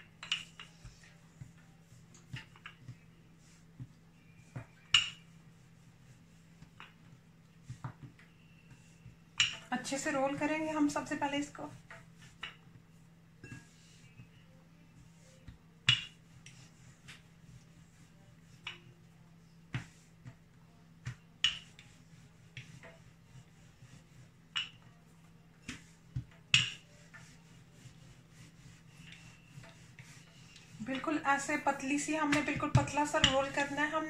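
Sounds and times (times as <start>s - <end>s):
rolling pin rubbing on dough: 0.0s - 34.0s.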